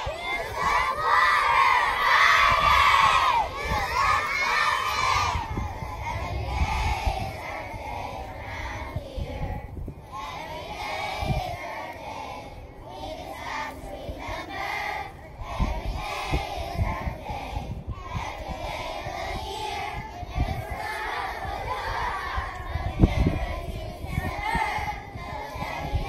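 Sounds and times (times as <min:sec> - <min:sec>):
children singing in unison: 0:00.0 - 0:26.0.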